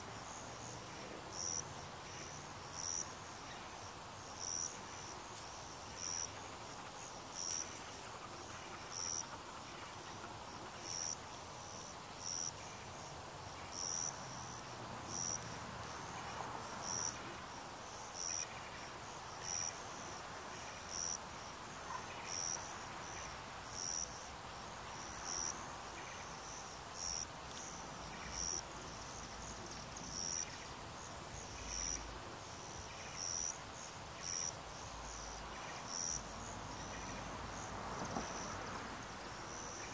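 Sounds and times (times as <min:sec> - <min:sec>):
faint background noise: 0:00.0 - 0:39.9
insect chirping: 0:00.0 - 0:39.9.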